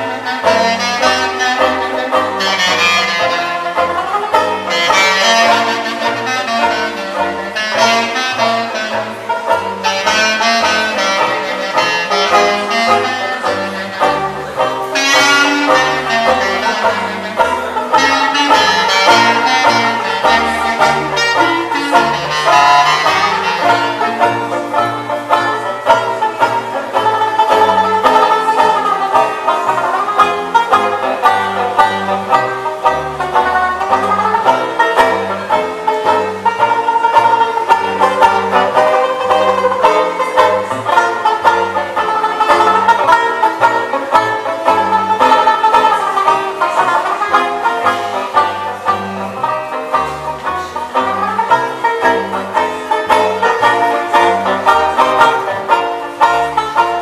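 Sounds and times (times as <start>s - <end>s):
banjo strumming: 0.0s - 57.0s
clarinet: 0.0s - 57.0s
plucked double bass: 0.0s - 57.0s.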